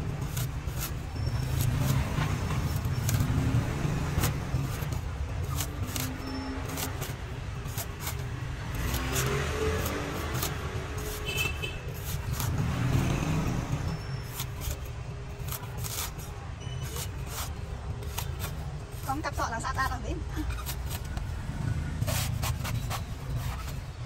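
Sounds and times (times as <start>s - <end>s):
cleaver chopping coconut husk: 0.1s - 19.3s, 20.4s - 21.3s, 22.0s - 23.7s.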